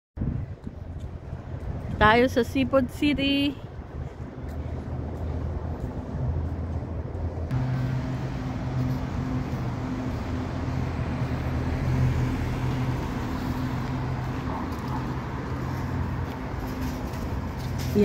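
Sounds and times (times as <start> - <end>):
vehicle noise rush: 0.2 - 18.0
low engine hum: 2.6 - 18.0.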